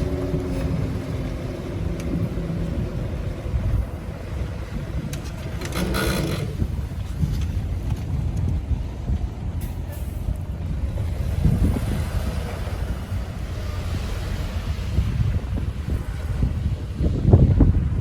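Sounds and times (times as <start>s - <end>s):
diesel machinery rumbling: 0.0s - 18.0s.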